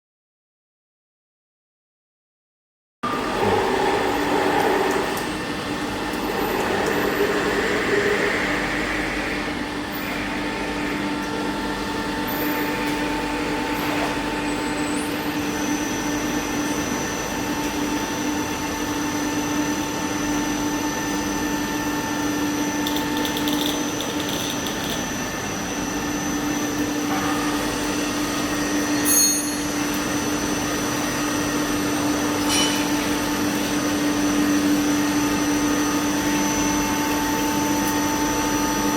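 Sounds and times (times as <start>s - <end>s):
machine humming with high whine: 3.0s - 38.9s.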